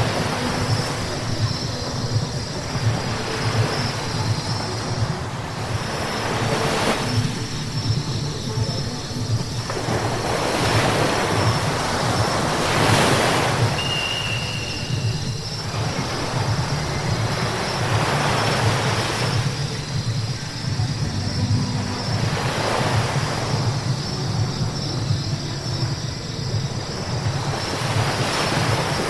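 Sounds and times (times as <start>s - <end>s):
tyres hissing on wet road: 0.0s - 29.0s.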